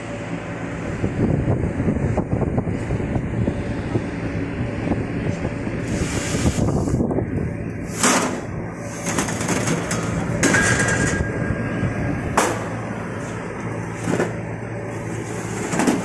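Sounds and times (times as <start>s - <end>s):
spot welding machine hum: 0.0s - 16.0s.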